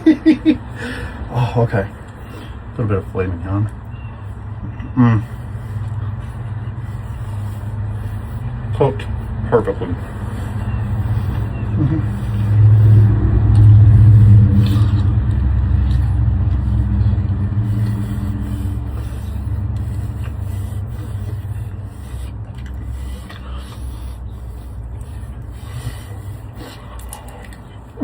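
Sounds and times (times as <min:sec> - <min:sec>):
vehicle engine rumbling low: 0:00.0 - 0:28.0.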